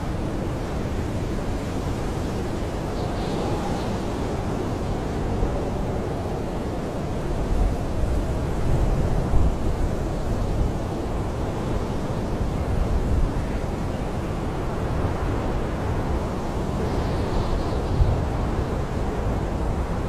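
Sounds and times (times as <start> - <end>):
wind howling around a tent: 0.0 - 20.0.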